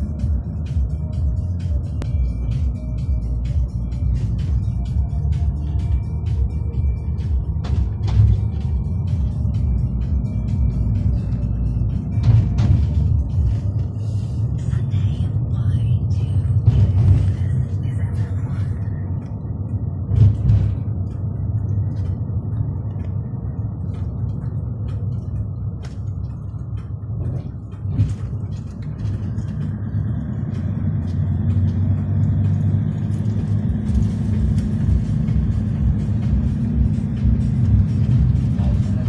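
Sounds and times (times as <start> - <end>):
road and engine rumble inside vehicle: 0.0 - 39.0.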